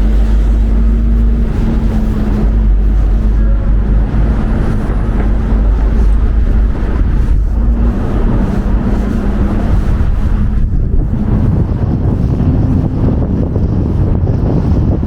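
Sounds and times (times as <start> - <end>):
street traffic engine hum: 0.0 - 15.0
wind buffeting microphone: 0.0 - 15.0.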